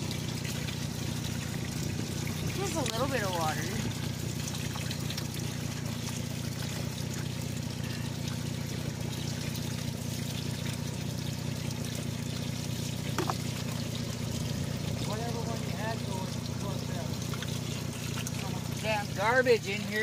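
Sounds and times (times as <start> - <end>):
steady low hum: 0.0 - 19.9
water trickling onto mud: 0.0 - 20.0.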